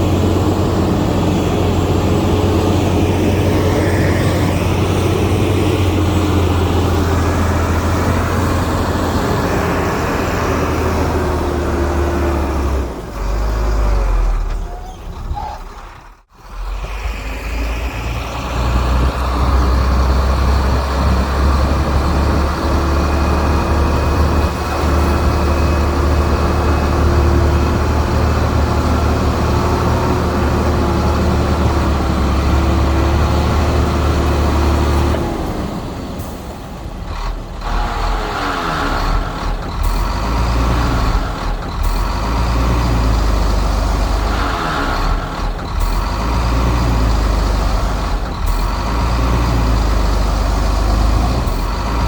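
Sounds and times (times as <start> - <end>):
diesel engine rumbling: 0.0 - 52.0.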